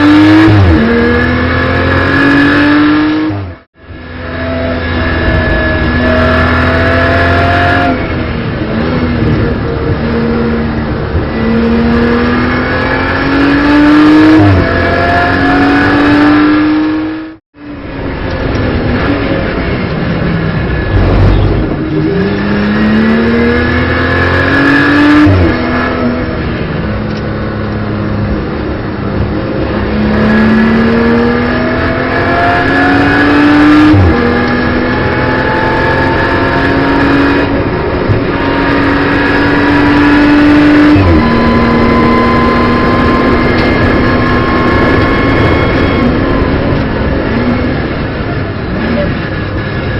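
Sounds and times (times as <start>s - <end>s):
race car engine revving: 0.0s - 3.6s, 4.2s - 17.4s, 18.5s - 49.9s.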